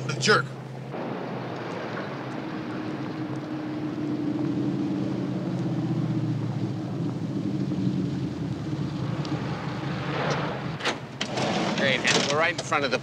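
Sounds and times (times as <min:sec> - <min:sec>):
van engine running: 0:02.1 - 0:13.0.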